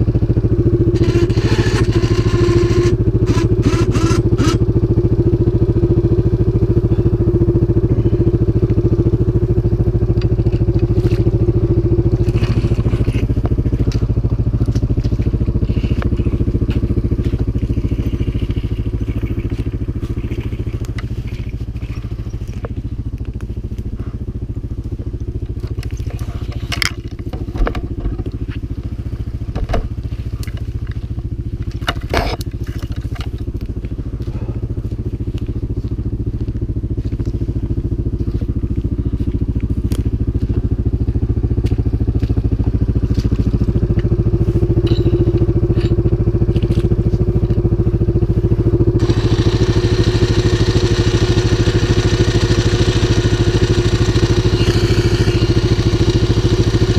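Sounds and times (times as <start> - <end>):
atv engine under load: 0.0 - 56.9.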